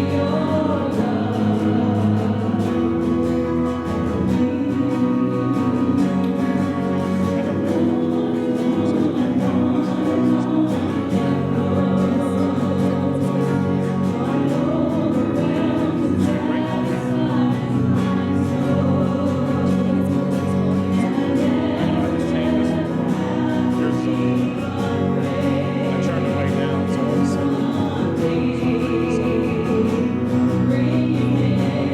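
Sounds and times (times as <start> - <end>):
band playing steady beat: 0.0 - 31.9
group of voices singing: 0.0 - 31.9.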